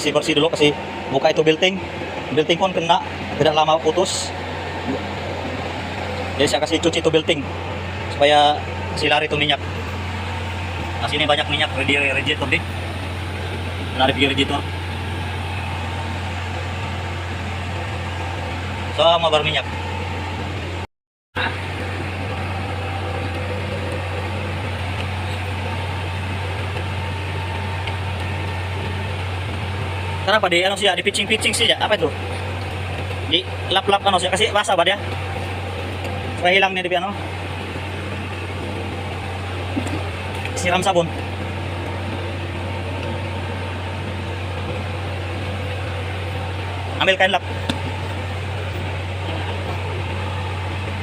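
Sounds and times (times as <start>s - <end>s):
diesel generator running: 0.0s - 51.0s
machine humming: 0.0s - 51.0s.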